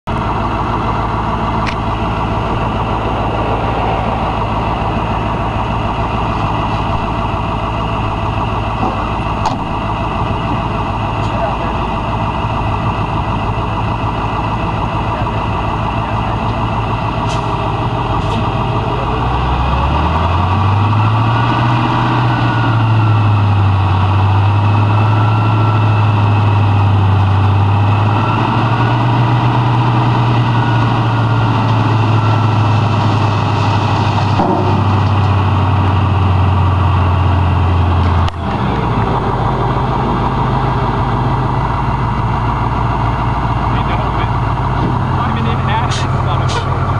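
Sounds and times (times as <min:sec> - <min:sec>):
diesel truck engine idling and revving: 0:00.0 - 0:46.9.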